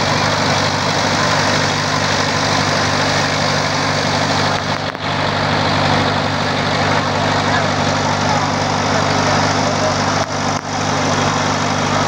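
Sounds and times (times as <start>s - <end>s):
low hum: 0.0s - 12.0s
mechanical engine drone: 0.0s - 12.0s.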